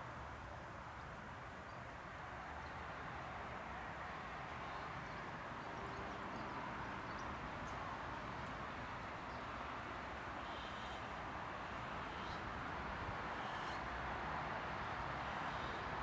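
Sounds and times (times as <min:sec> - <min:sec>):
constant outdoor rush: 0:00.0 - 0:16.0.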